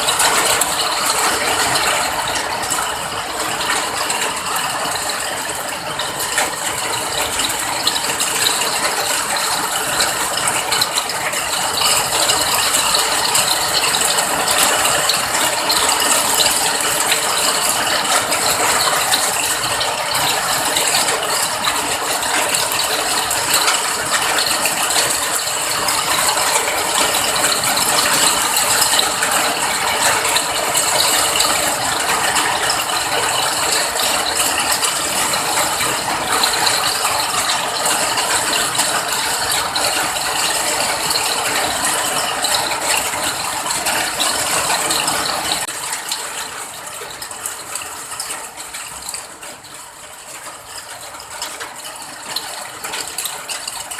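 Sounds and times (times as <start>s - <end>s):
heavy rain on hard surface: 0.0s - 53.9s.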